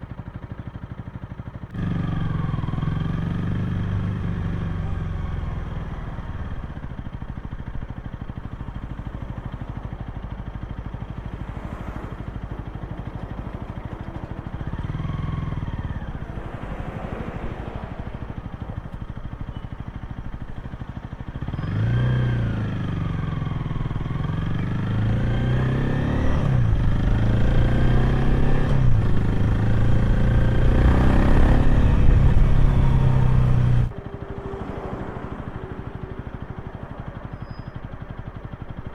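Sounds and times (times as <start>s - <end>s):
motorcycle engine revving: 0.3s - 38.9s.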